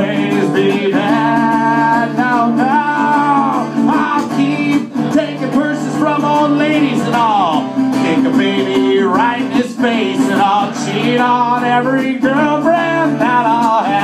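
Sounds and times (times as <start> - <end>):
man singing: 0.0 - 14.0
strummed acoustic guitar: 0.0 - 14.0.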